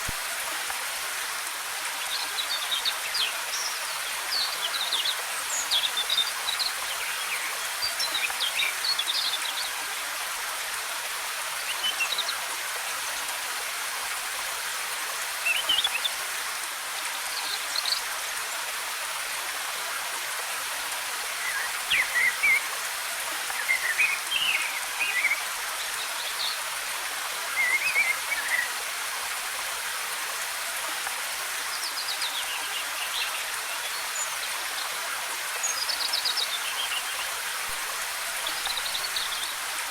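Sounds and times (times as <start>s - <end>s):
waterfall hissing: 0.0s - 39.9s.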